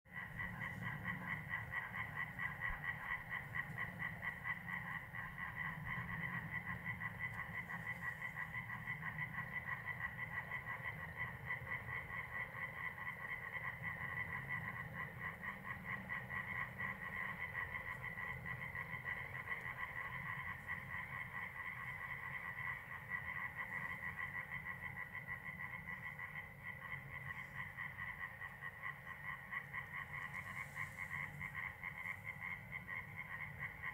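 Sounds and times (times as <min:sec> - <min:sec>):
corncrake rasping call: 0:00.1 - 0:33.9.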